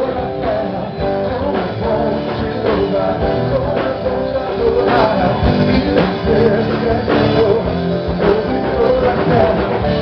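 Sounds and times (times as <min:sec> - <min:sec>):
bass guitar: 0:00.0 - 0:10.0
drums: 0:00.0 - 0:10.0
electric guitar: 0:00.0 - 0:10.0
person singing: 0:00.0 - 0:10.0.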